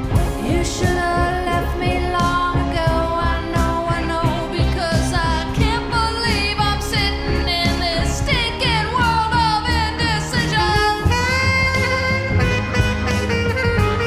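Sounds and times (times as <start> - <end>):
pop song with vocals: 0.0 - 14.0.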